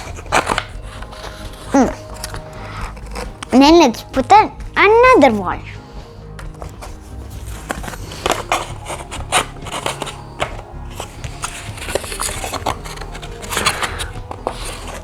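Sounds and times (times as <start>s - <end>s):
cardboard scraping and tapping: 0.0s - 5.4s, 6.3s - 15.0s
faint background music: 0.0s - 15.0s.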